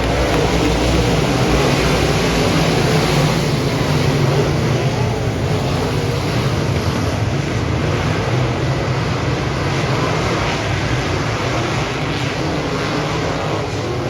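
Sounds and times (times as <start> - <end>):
race car engine running: 0.0 - 14.0
rushing wind: 0.0 - 14.0.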